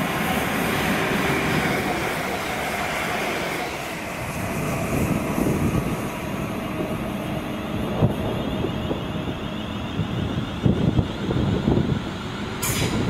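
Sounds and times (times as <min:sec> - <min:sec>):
train running past: 0:00.0 - 0:13.0.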